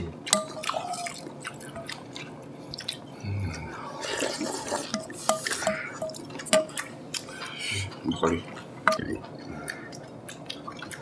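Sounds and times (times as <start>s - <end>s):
wet chewing and lip-smacking: 0.2s - 11.0s.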